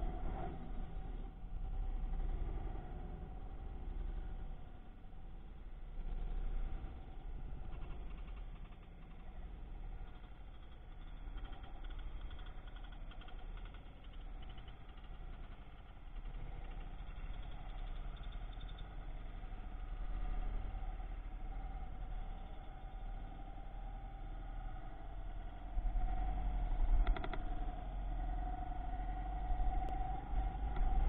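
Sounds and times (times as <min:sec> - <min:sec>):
motorcycle engine at low speed: 0:00.0 - 0:31.0.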